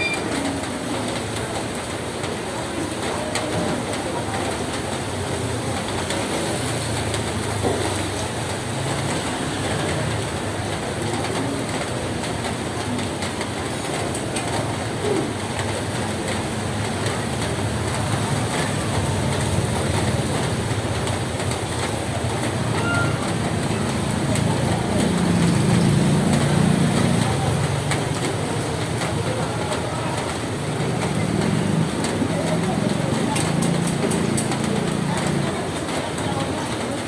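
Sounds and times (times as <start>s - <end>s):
rain pattering on a roof: 0.0s - 37.0s.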